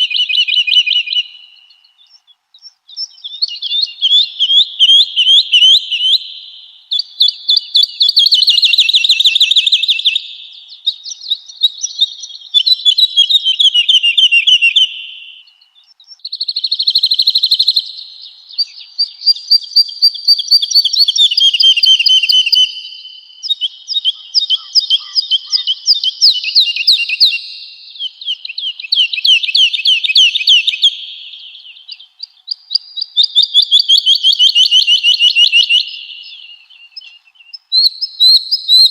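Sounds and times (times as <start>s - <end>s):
woodlark singing: 0.0s - 38.9s.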